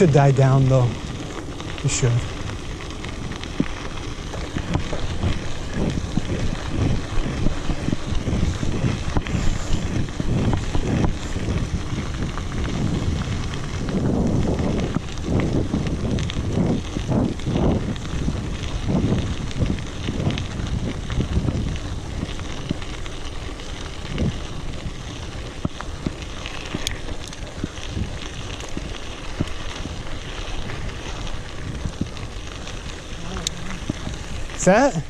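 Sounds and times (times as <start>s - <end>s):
bike tyres rolling on dirt: 0.0s - 35.0s
wind buffeting microphone: 0.0s - 35.0s.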